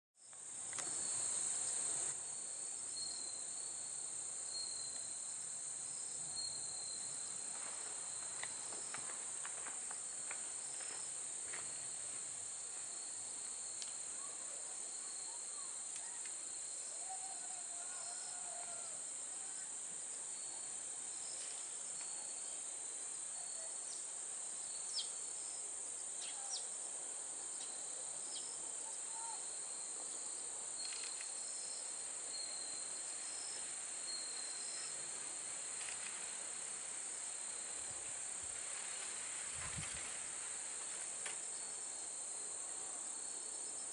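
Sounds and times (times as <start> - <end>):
crickets and insects chirring: 0.2 - 43.9.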